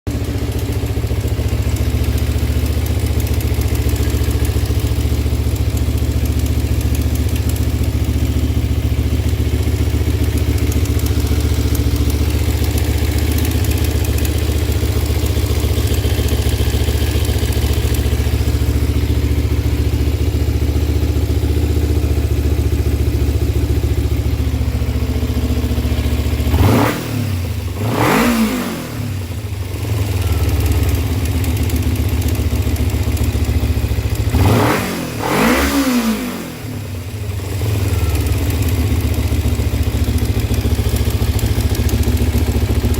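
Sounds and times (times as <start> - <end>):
motorcycle engine idling and revving: 0.0 - 42.9
engine ticking: 0.1 - 42.9.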